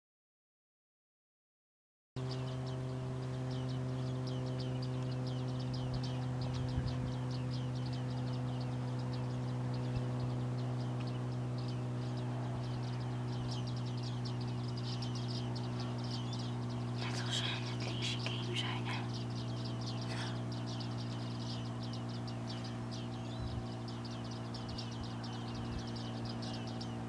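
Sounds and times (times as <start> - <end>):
high metallic bird calls: 2.2 - 27.0
steady low hum: 2.2 - 27.0.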